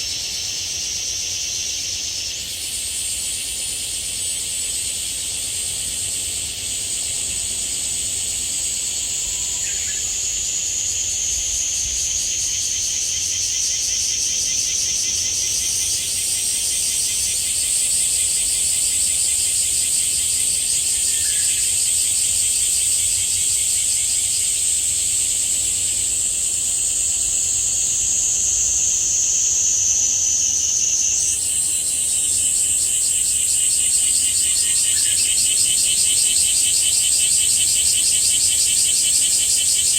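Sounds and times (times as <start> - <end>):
cicadas shrilling: 0.0 - 39.9.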